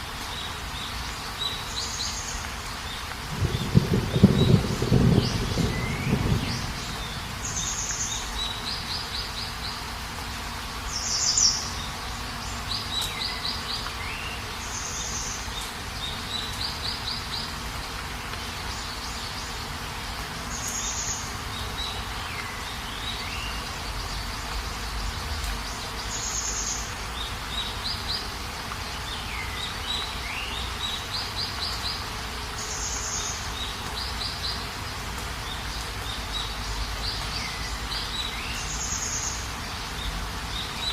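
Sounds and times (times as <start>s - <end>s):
songbird singing: 0.0s - 40.9s
steady hiss: 0.0s - 40.9s.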